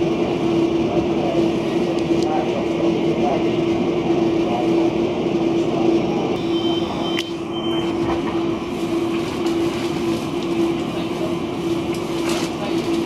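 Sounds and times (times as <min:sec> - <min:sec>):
train rumbling with hum: 0:00.0 - 0:13.0.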